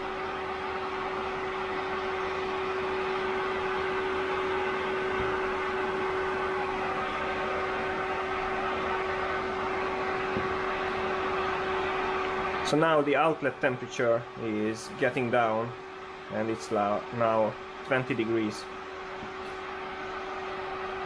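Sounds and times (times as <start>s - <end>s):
cooling fan humming: 0.0s - 21.0s.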